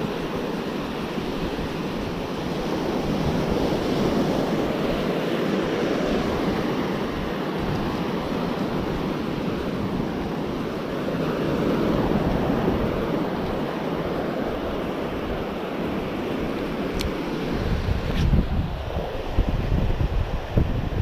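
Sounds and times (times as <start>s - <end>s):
small waves washing on sand: 0.0s - 21.0s
wind on microphone: 0.0s - 21.0s.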